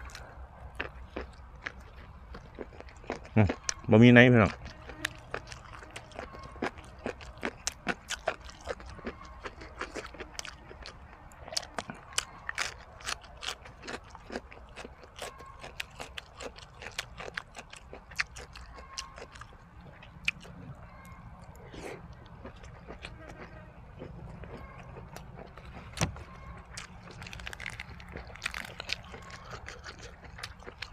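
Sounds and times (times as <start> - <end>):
person chewing crunchy food: 0.0 - 30.9.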